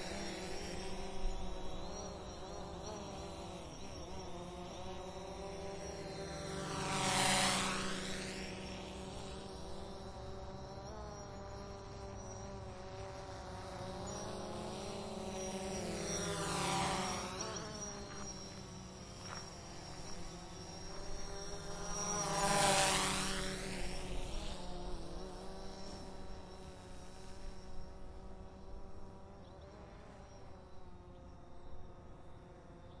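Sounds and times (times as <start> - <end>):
drone propellers buzzing: 0.0 - 31.4.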